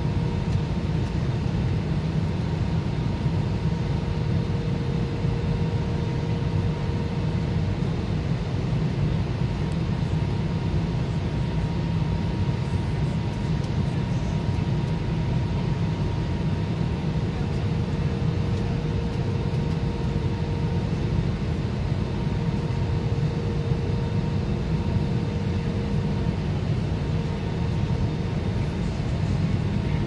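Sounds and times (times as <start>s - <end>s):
aircraft engines droning: 0.0s - 30.0s.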